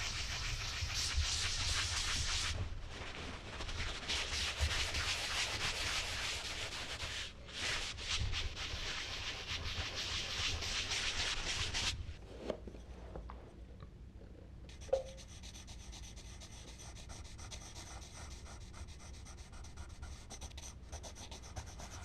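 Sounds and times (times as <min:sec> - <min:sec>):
charcoal scratching on paper: 0:00.0 - 0:02.6, 0:03.6 - 0:12.0, 0:14.7 - 0:22.0.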